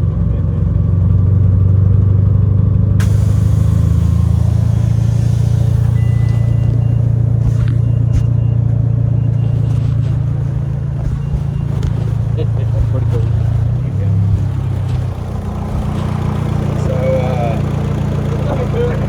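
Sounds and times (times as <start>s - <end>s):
car engine idling: 0.0s - 19.0s
engine ticking: 0.0s - 19.0s.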